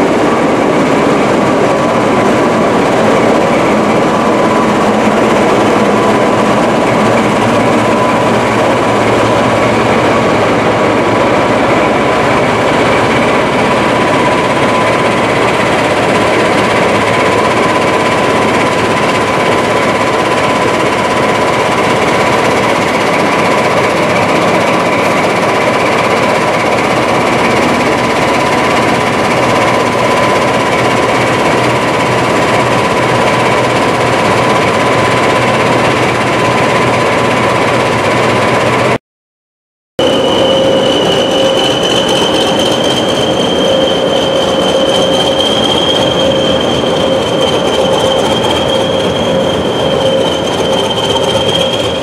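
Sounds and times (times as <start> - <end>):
diesel locomotive engine running: 0.0 - 39.0, 40.0 - 52.0.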